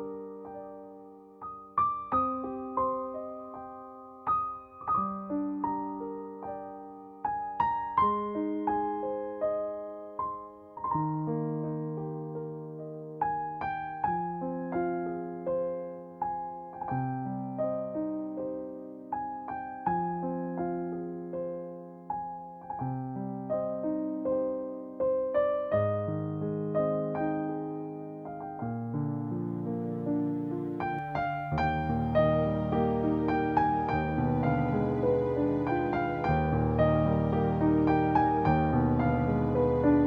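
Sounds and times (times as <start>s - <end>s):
slow gentle piano melody: 0.0s - 40.0s.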